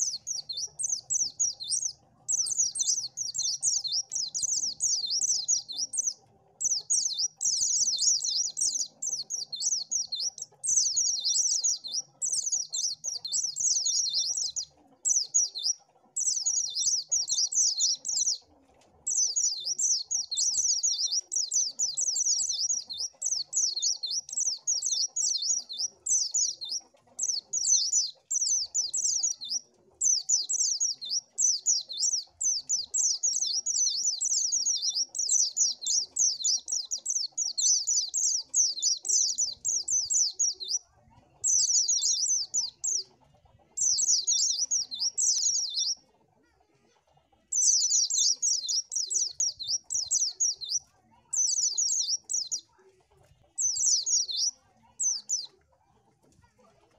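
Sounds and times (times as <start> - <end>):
bird twittering song: 0.0 - 46.1, 47.4 - 52.8, 53.4 - 55.6.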